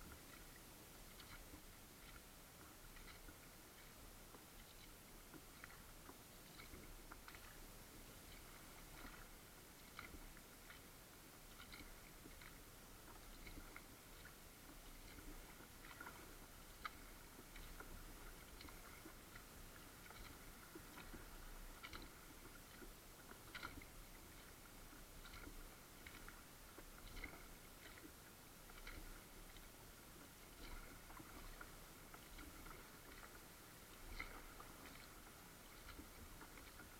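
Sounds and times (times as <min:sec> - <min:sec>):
low steady hiss: 0:00.0 - 0:36.9
water drips and small splashes: 0:00.0 - 0:36.9.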